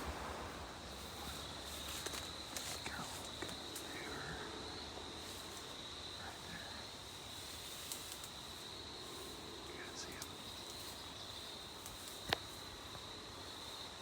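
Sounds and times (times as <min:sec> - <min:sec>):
soft clicks of twigs: 0:01.0 - 0:04.4, 0:05.2 - 0:14.0.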